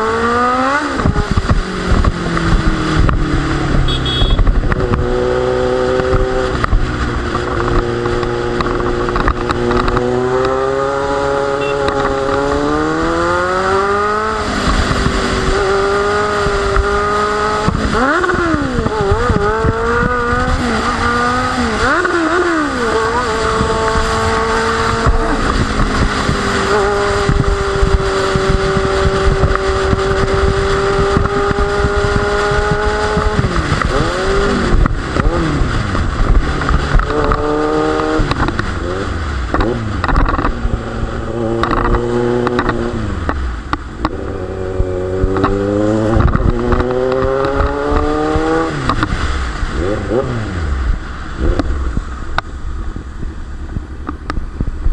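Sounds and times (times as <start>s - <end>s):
motorcycle engine revving: 0.0s - 54.9s
wind rushing across microphone: 0.0s - 54.9s.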